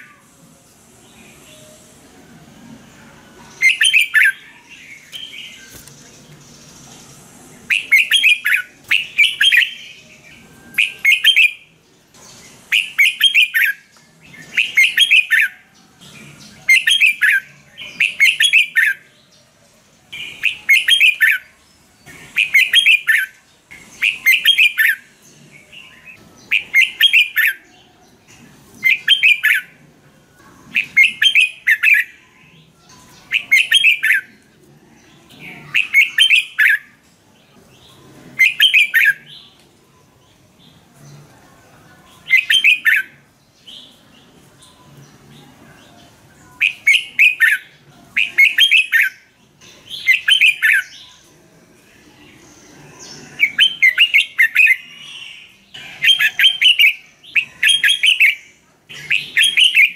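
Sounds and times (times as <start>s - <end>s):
bulbul singing: 0.0s - 41.3s, 42.0s - 59.9s.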